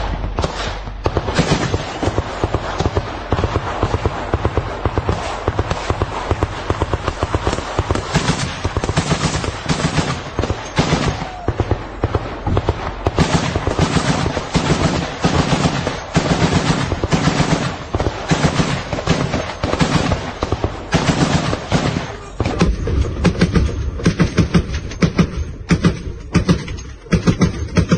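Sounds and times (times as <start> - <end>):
machine gun firing: 0.0 - 27.9.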